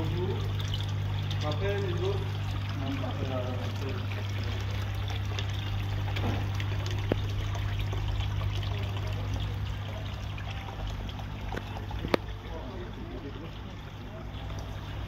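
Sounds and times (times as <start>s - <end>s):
pond pump hum: 0.0s - 15.0s
water trickling and splashing: 0.0s - 15.0s.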